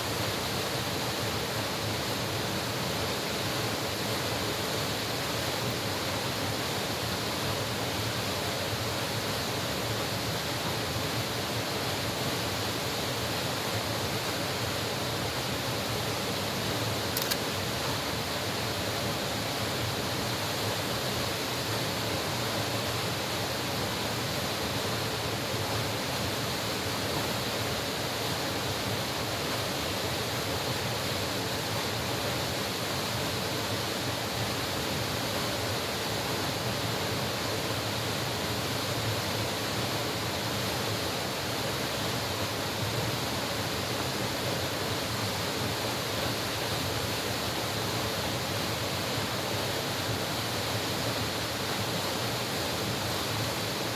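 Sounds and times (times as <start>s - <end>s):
stream water rushing over rocks: 0.0s - 53.9s.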